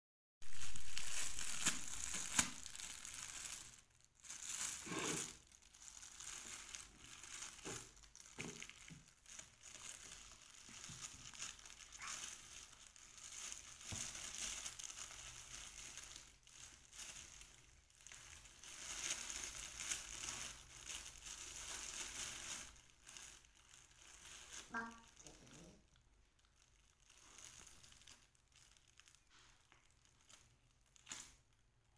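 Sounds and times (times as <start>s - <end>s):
plastic bag crinkling: 0.4s - 31.8s.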